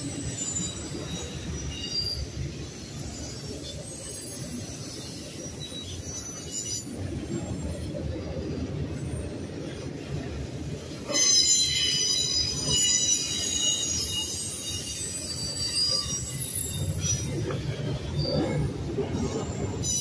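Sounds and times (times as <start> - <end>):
freight train rumbling past: 0.0 - 20.0
steel wheels squealing on rail: 0.0 - 20.0.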